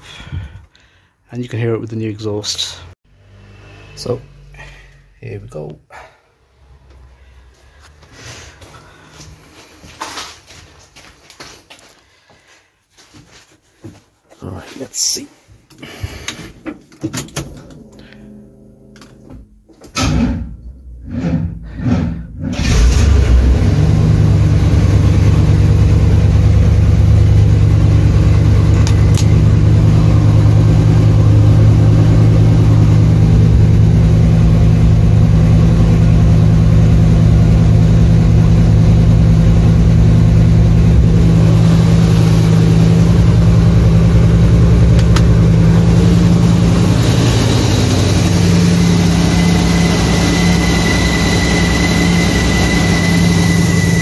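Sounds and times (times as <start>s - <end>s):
car engine starting and running: 2.6s - 10.4s, 15.7s - 54.0s.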